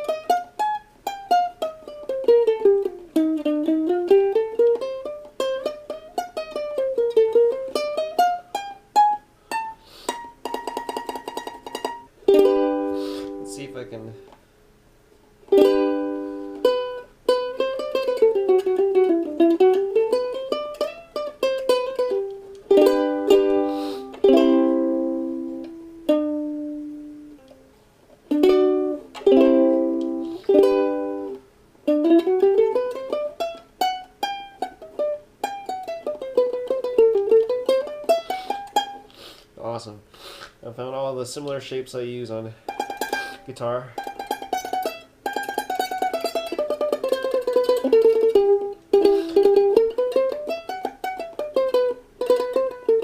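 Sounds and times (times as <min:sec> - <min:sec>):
ukulele single-note scale runs: 0:00.0 - 0:13.8, 0:15.5 - 0:27.7, 0:28.3 - 0:39.0, 0:43.9 - 0:53.0
ukulele strummed chords: 0:00.0 - 0:14.3, 0:15.5 - 0:39.1, 0:42.5 - 0:53.0.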